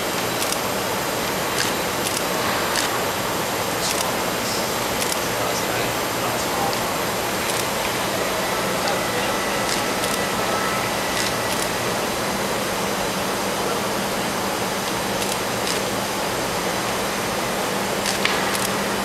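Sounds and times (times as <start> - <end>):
mechanical hum and rushing air: 0.0 - 19.0.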